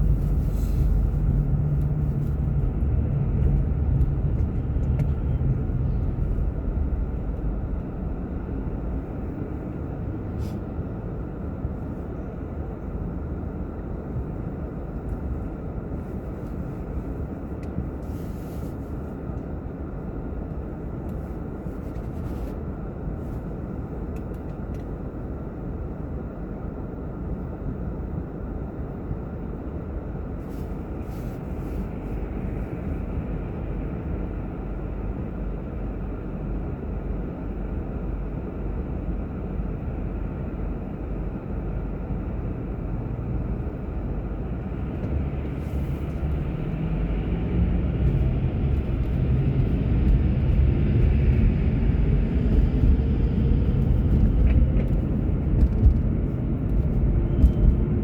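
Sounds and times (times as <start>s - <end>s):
car driving rumble: 0.0s - 25.6s, 29.5s - 58.0s.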